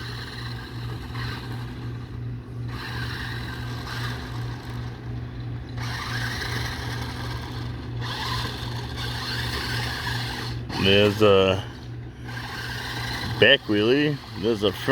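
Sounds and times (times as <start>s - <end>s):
steady low hum: 0.0s - 14.9s
toy truck motor whirring: 0.0s - 14.9s.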